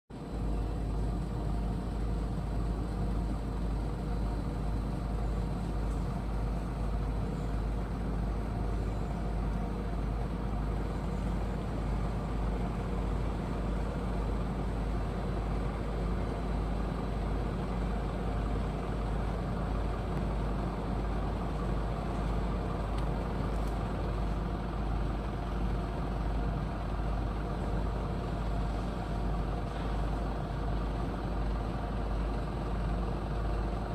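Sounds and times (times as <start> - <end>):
steady low rumbling hum: 0.1 - 33.9.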